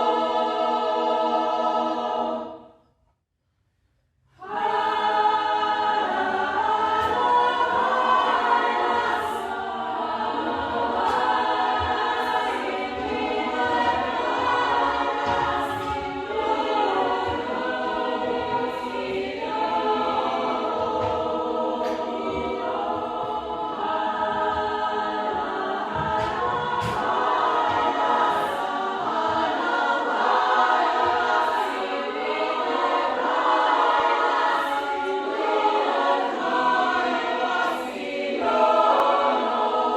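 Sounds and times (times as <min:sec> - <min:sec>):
chamber choir singing: 0:00.0 - 0:02.9, 0:04.3 - 0:39.9.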